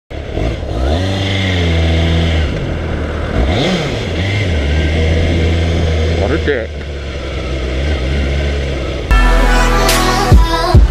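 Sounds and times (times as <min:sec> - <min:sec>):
motorcycle engine revving: 0:00.1 - 0:10.9.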